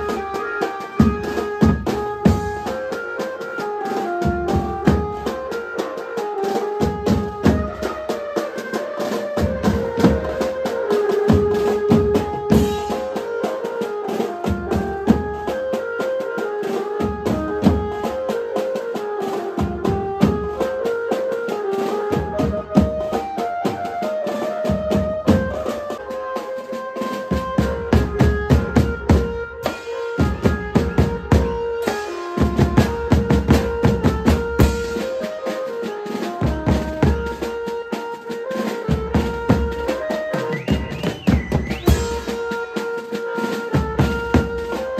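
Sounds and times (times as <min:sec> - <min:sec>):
drums beating: 0:00.0 - 0:44.9
keyboard melody: 0:00.0 - 0:44.9.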